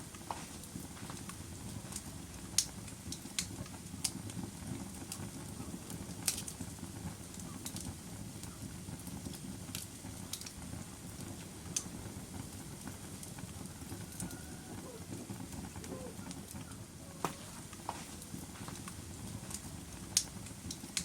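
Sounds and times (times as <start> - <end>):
fire crackles and pops: 0.0 - 21.0
log fire rumbling: 0.0 - 21.0.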